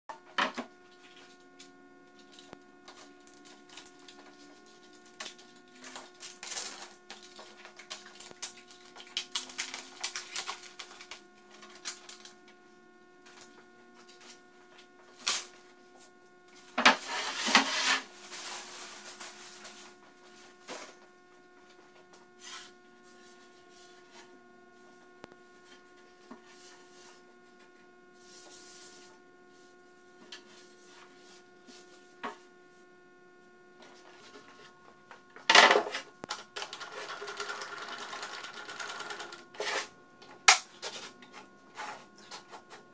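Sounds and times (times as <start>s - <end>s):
electrical hum: 0.1s - 42.9s.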